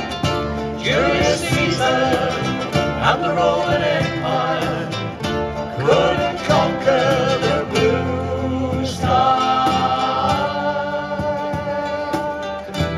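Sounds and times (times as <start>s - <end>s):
guitar: 0.0s - 12.9s
people singing along: 0.0s - 12.9s
ukuleles strumming: 0.0s - 12.9s.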